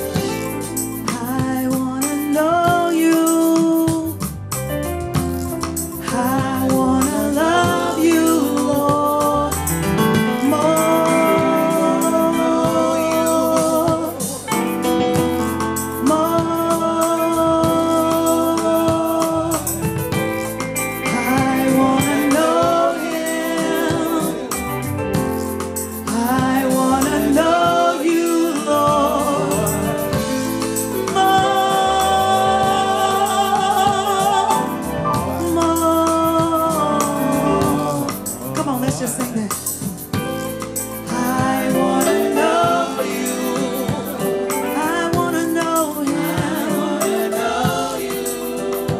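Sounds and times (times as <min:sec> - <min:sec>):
keyboard accompaniment: 0:00.0 - 0:48.9
voices singing gospel: 0:00.0 - 0:48.9.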